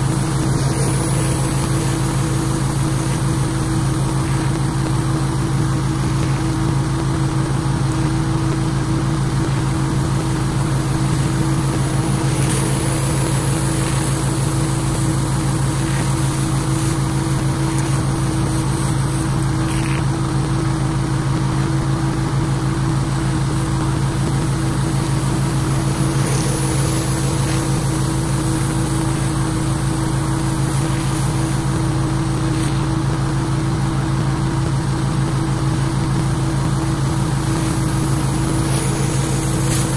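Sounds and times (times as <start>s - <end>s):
water spray hissing on concrete: 0.0s - 6.8s, 8.0s - 20.6s, 23.3s - 33.1s, 36.2s - 39.9s
pressure washer engine running: 0.0s - 39.9s.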